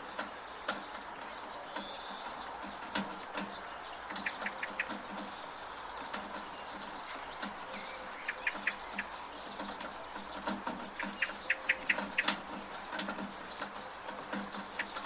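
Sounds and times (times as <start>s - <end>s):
birds chirping: 0.0s - 15.0s
steady rain: 0.0s - 15.0s
water dripping from a gutter: 0.0s - 15.0s.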